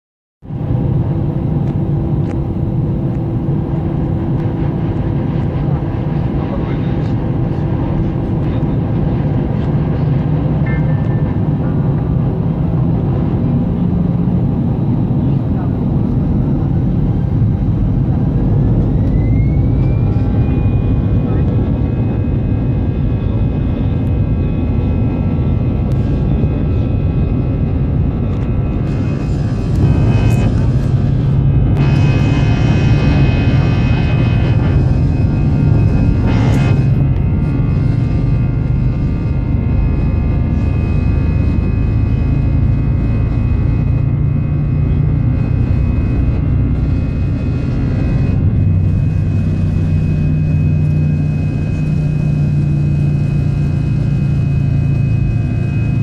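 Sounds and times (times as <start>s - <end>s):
jet engines and wheels rumbling: 0.4s - 56.0s
steady hum: 0.4s - 56.0s.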